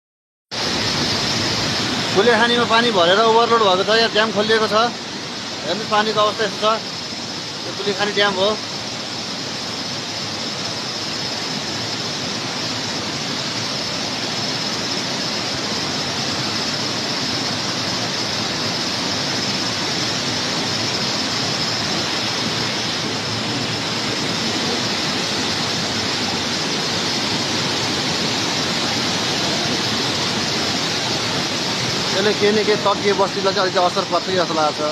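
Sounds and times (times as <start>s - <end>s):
heavy rush of water: 0.5s - 34.9s.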